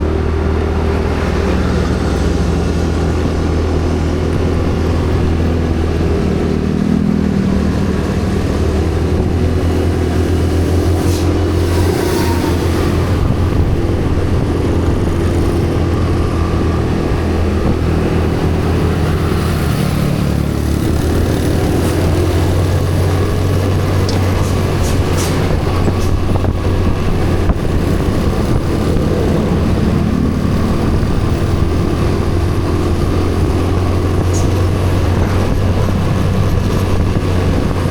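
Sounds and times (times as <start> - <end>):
road noise: 0.0 - 37.9
vehicle engine running: 0.0 - 37.9.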